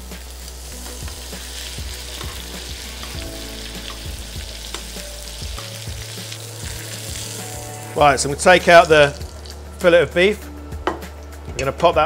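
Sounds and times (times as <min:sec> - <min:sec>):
meat sizzling in butter: 0:00.0 - 0:09.8.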